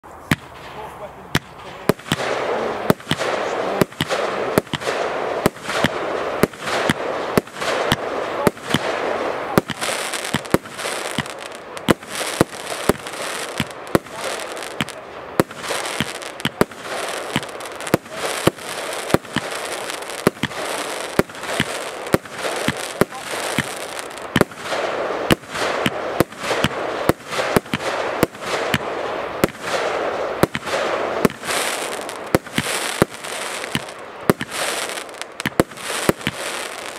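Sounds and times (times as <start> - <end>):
firework crackle: 0.2 - 36.9
firework cake bangs: 1.4 - 36.9.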